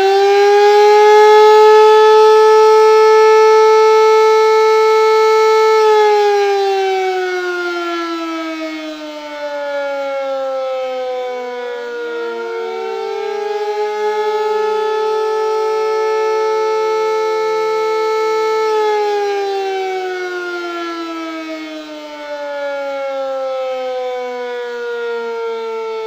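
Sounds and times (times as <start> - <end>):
falling siren tone: 0.0 - 26.0
rising siren tone: 0.0 - 26.0.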